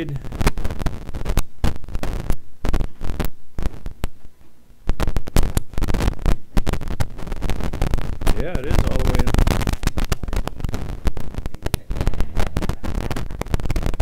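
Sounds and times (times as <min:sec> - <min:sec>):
crackling pops over sound system: 0:00.0 - 0:14.0.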